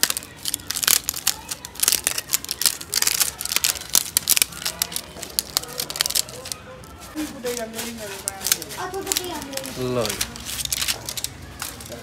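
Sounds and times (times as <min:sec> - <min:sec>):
fingers scratching kite string: 0:00.0 - 0:11.9.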